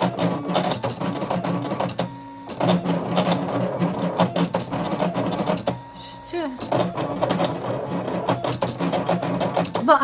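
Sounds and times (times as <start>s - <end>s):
cutting machine motors whirring: 0.0s - 10.0s.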